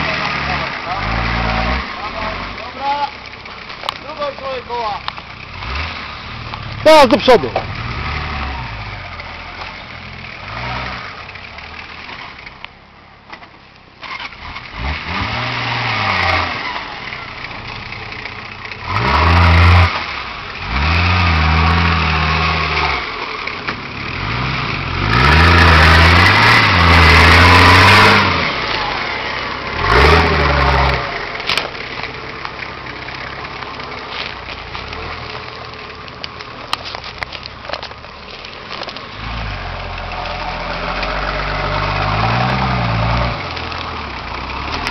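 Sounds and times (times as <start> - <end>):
diesel engine revving: 0.0 - 12.7, 14.0 - 44.9.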